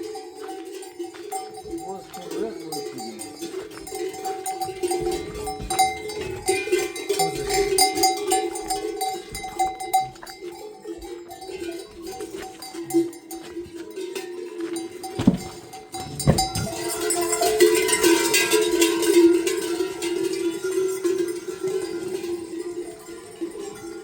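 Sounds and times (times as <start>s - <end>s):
livestock bells clanking: 0.0s - 24.0s.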